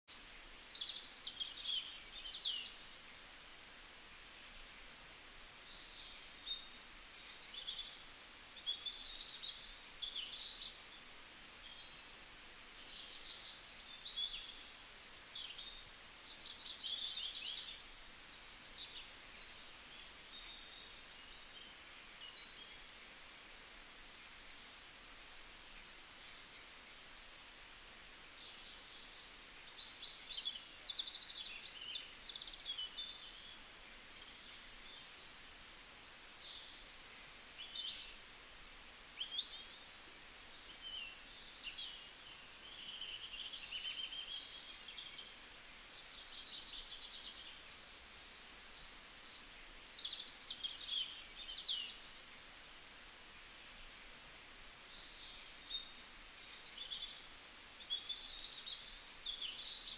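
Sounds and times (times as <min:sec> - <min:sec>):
faint steady hiss: 0:00.0 - 0:59.9
songbirds chirping and trilling: 0:00.1 - 0:59.9.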